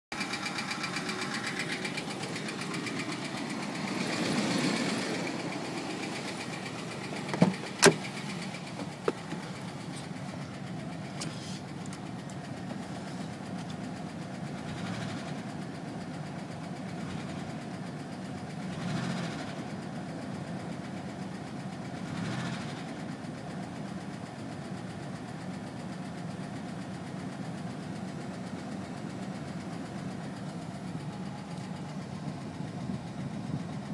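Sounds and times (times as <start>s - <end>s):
van engine idling: 0.1s - 33.9s.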